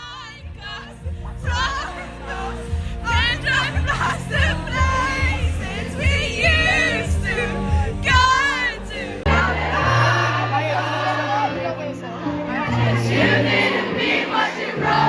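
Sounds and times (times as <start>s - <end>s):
lead vocalist singing: 0.0s - 15.0s.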